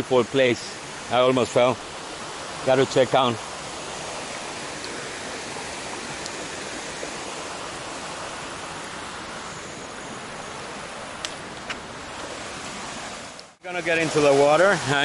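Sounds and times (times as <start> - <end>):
waterfall rushing: 0.0 - 11.2, 11.9 - 15.0.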